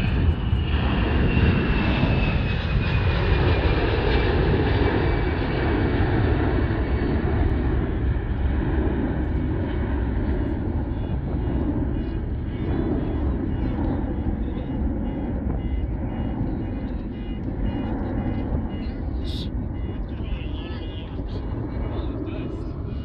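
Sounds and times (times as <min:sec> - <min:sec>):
jet engine roar with whine: 0:00.0 - 0:23.0.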